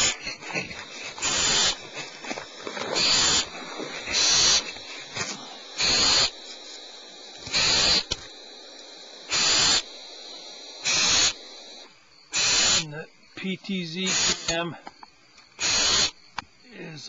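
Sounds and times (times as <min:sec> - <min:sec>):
owl nestlings hissing: 0:00.0 - 0:13.0, 0:13.7 - 0:14.8, 0:15.5 - 0:16.2.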